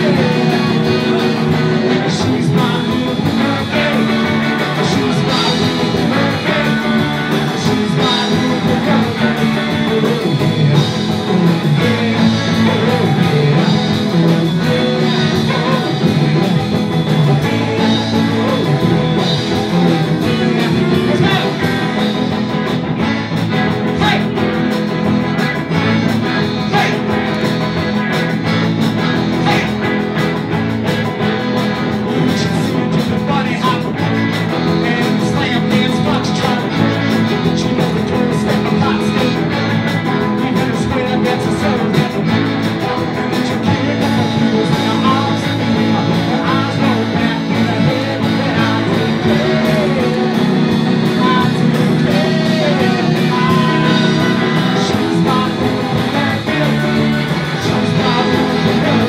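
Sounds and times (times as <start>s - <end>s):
saxophone: 0.0s - 35.6s, 36.2s - 59.0s
guitar: 0.0s - 59.0s
person singing: 0.0s - 59.0s.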